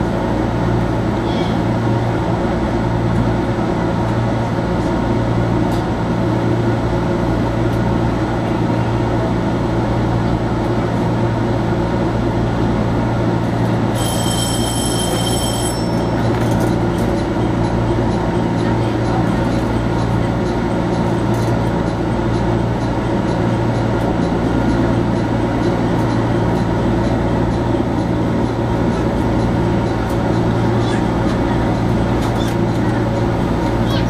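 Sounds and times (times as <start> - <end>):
train rumble on rails: 0.0 - 34.0.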